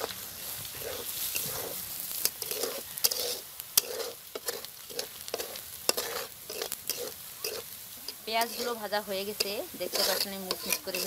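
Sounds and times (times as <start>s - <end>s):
onions sizzling in oil: 0.0s - 11.0s
metal spatula scraping pan: 0.8s - 11.0s.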